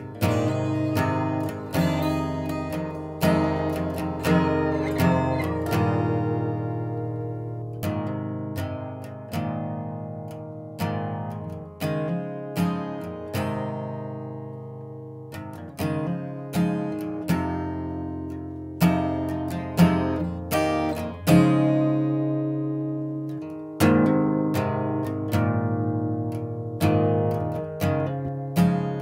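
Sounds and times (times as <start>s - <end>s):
acoustic guitar picking: 0.0s - 29.0s.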